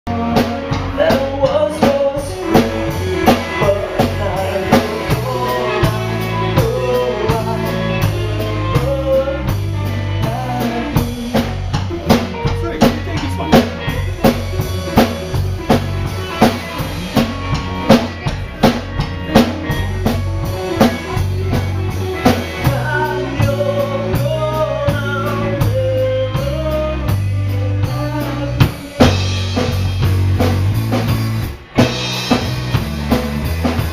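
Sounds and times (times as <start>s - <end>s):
band playing live: 0.1s - 33.9s
bass line: 0.1s - 33.9s
drum kit rhythm: 0.1s - 33.9s.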